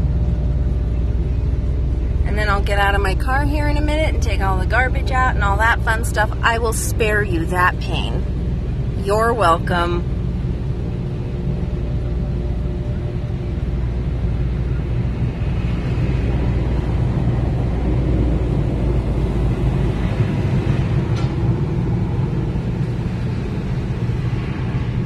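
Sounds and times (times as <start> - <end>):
car wash machinery rumbling: 0.0 - 25.0.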